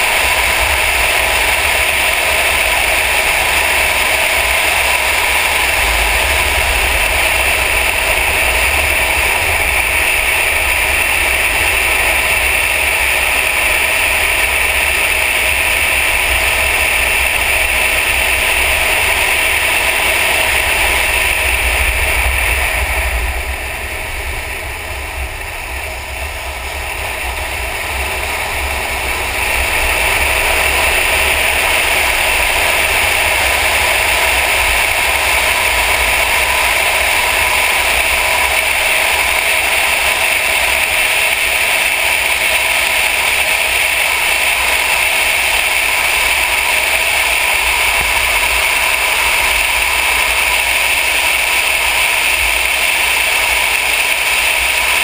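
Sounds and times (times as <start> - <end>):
car engine at speed: 0.0 - 55.0
wind noise: 0.0 - 55.0.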